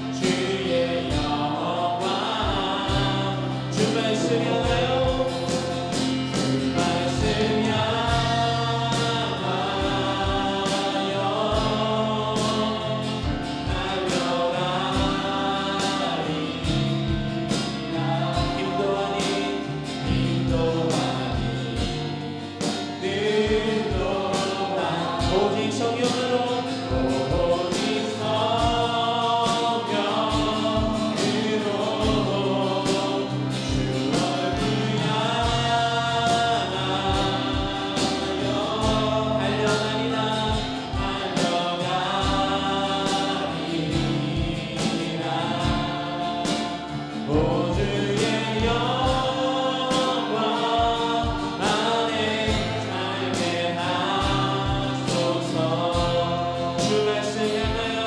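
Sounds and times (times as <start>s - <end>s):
acoustic guitar: 0.0s - 58.0s
group singing worship song: 0.0s - 58.0s
steady drum beat: 0.0s - 58.0s.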